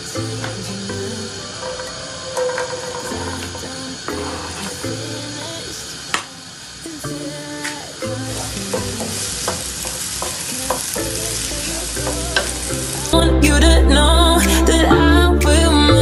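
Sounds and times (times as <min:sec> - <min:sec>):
background music: 0:00.0 - 0:06.0, 0:07.0 - 0:09.6, 0:10.7 - 0:16.0
onions sizzling in a frying pan: 0:00.1 - 0:13.2.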